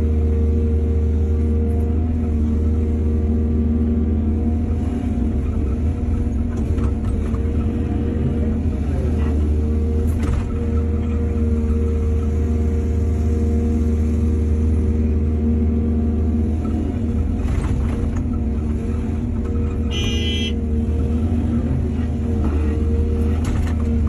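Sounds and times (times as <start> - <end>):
diesel excavator engine running: 0.0 - 24.0.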